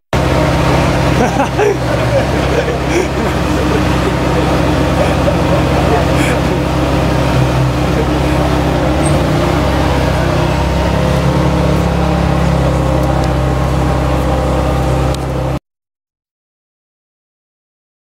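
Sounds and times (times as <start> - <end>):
car engine rumbling at low revs: 0.2 - 15.6.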